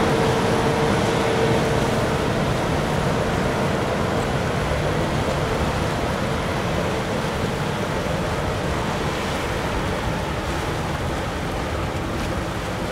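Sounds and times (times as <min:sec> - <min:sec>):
boat engine running at speed: 0:00.0 - 0:12.9
churning wake water: 0:00.0 - 0:12.9.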